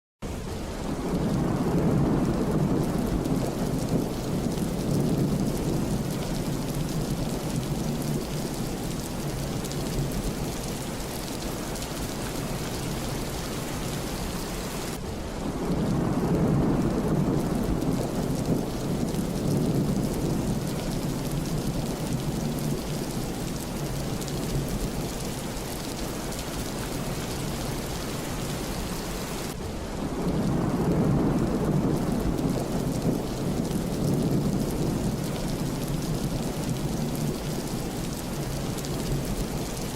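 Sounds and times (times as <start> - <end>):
heavy rain falling: 0.3 - 39.9
rolling thunder rumbles: 0.8 - 39.9.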